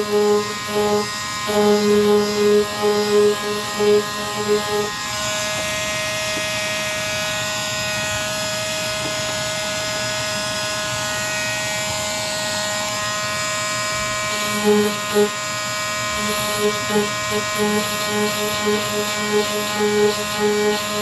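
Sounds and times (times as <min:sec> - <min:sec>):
power sander buzzing: 0:00.0 - 0:06.1, 0:09.0 - 0:21.0
sander motor whine: 0:00.0 - 0:21.0.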